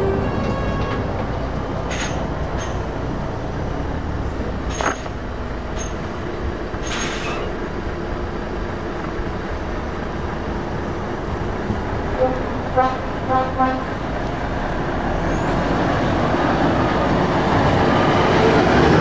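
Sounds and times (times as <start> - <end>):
truck diesel engine rumble: 0.0 - 19.0.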